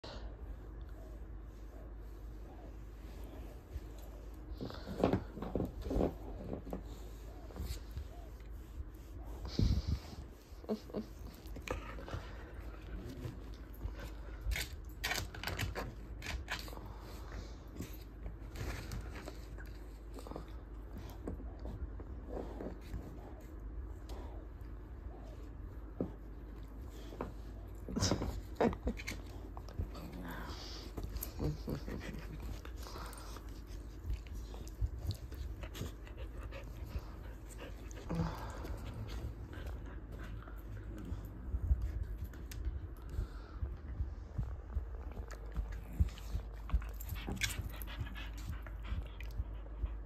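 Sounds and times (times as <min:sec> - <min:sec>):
dogs play-wrestling on bedding: 0:00.1 - 0:50.0.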